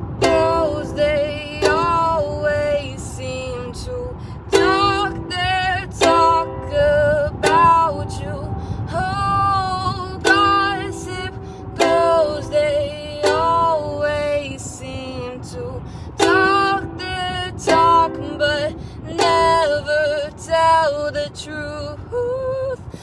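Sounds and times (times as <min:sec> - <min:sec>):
ukulele strumming chords: 0:00.0 - 0:22.0.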